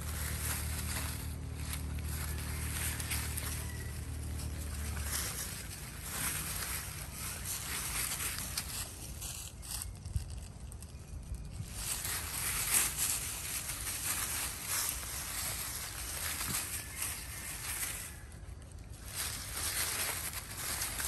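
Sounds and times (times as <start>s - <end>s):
dry leaves rustling: 0.0s - 21.0s.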